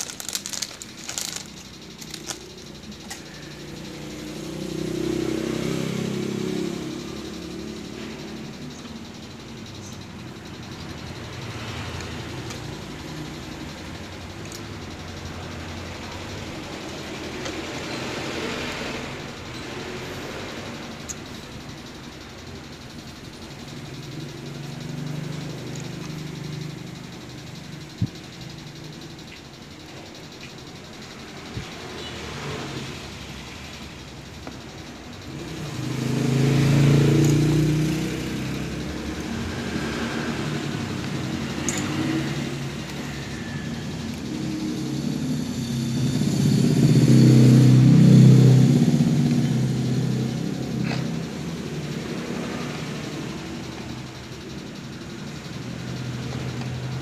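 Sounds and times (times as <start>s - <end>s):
passing motor vehicles: 0.0s - 57.0s.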